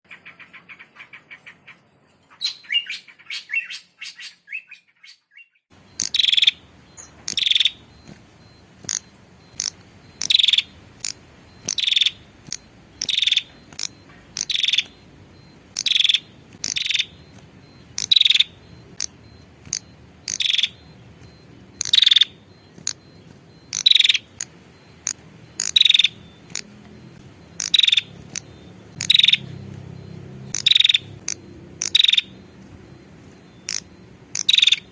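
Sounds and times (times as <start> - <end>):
bird twittering: 0.1 - 34.9
sharp high bird chirps: 0.1 - 34.9.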